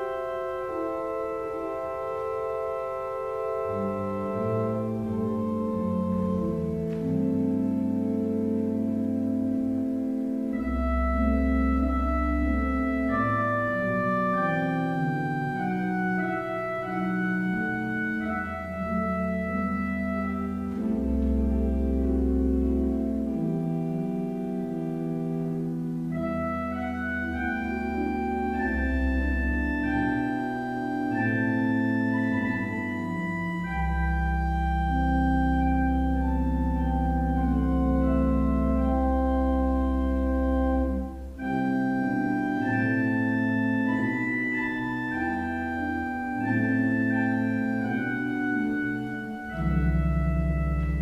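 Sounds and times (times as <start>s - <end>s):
deep organ pedal bass notes: 0.0s - 51.0s
pipe organ playing sustained chords: 0.0s - 51.0s.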